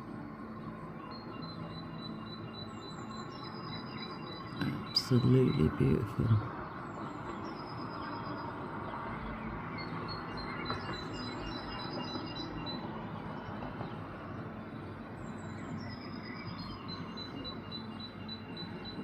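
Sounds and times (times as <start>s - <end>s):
small birds calling: 0.8s - 19.0s.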